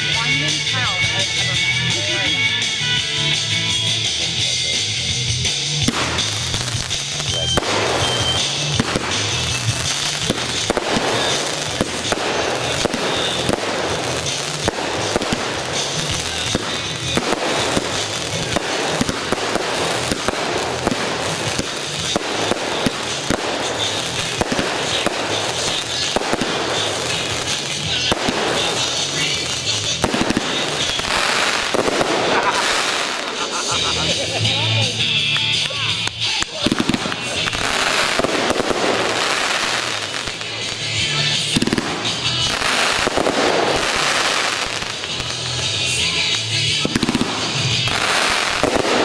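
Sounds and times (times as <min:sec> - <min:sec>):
fireworks crackling and popping: 0:00.0 - 0:49.0
fireworks launching: 0:00.0 - 0:49.0.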